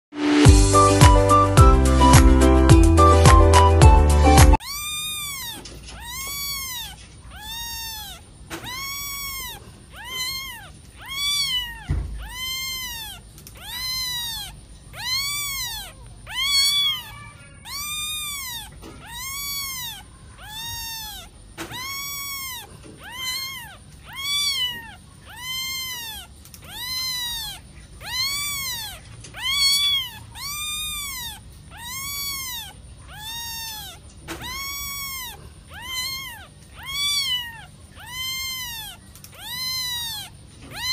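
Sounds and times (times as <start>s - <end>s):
kitten mewing: 4.6s - 40.9s.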